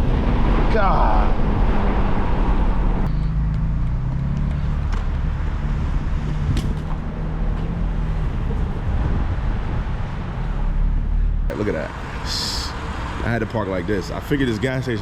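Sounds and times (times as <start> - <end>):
car engine drone: 0.0 - 15.0
road noise rumble: 0.0 - 15.0.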